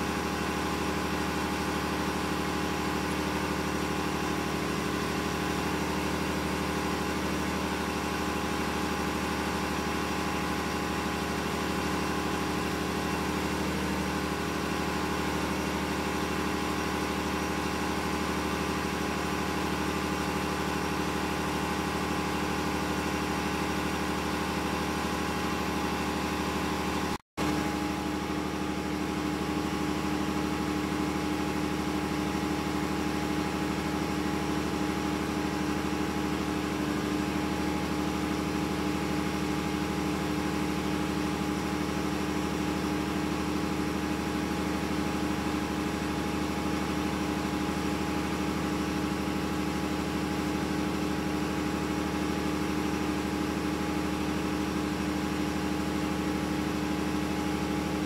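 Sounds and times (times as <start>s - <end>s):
engine room machinery drone: 0.0s - 58.0s.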